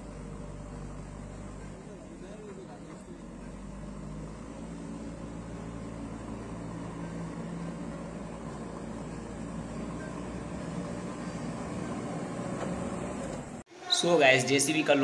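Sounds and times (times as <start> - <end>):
diesel engine running under load: 0.0 - 13.6.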